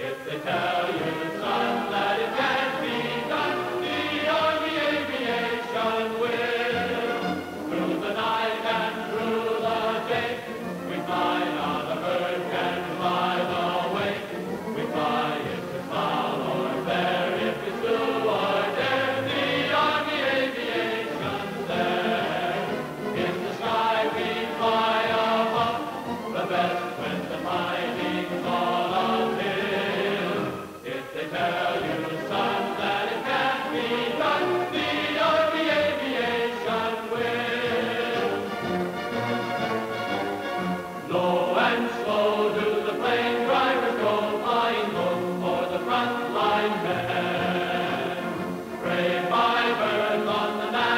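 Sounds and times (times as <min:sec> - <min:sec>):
choir singing sustained chords: 0:00.0 - 0:50.9.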